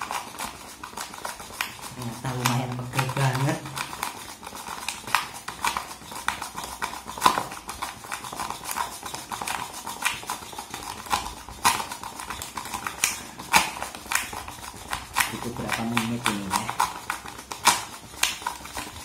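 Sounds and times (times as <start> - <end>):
utensil whisking coffee in plastic container: 0.0 - 19.0.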